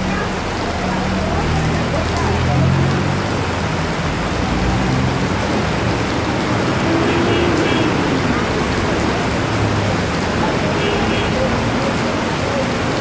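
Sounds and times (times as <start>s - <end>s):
heavy rain on a wet street: 0.0s - 13.0s
low hum of passing traffic: 0.2s - 13.0s.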